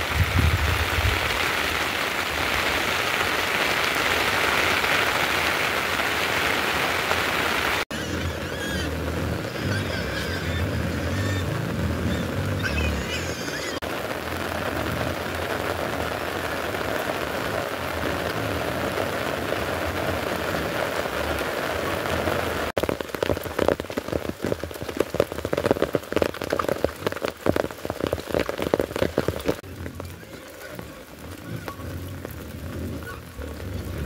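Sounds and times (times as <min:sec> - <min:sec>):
dense patter of taps: 0:00.0 - 0:07.9, 0:13.3 - 0:34.0
rain hissing: 0:00.0 - 0:34.0.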